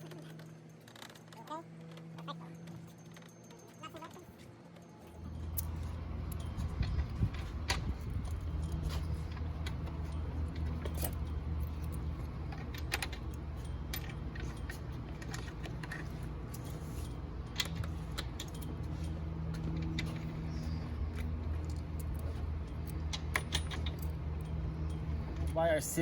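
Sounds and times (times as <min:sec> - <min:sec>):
small metal hardware clinking: 0:00.0 - 0:26.0
steady low hum: 0:05.0 - 0:26.0.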